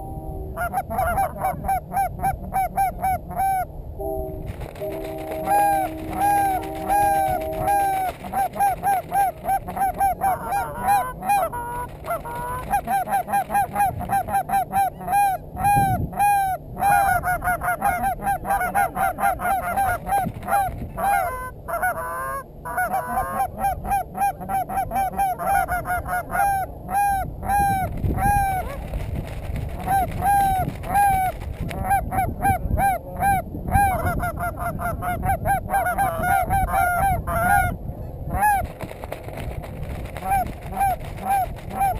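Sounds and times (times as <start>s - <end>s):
geese honking: 0.6s - 29.0s, 29.7s - 38.8s, 40.1s - 41.9s.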